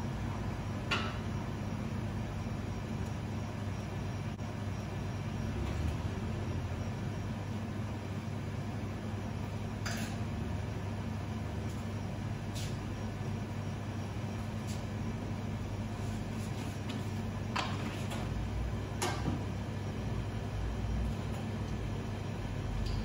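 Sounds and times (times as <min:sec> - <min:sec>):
low mechanical hum of equipment: 0:00.0 - 0:23.0.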